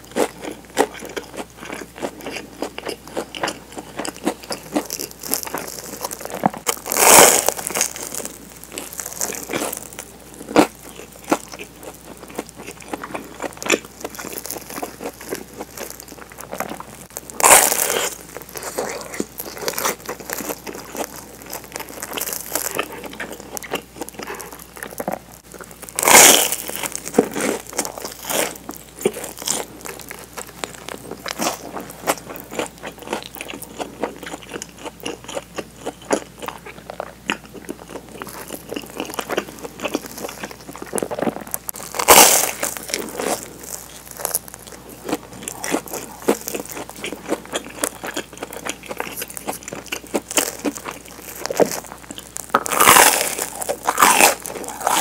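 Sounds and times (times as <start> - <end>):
chewing: 0.0 - 55.0
crunching bites into toast: 0.0 - 55.0.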